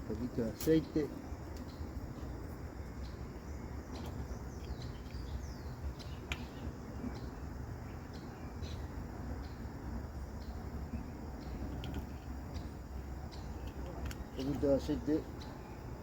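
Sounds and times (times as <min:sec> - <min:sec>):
bird chirps and calls: 0:00.2 - 0:09.7, 0:10.4 - 0:16.0.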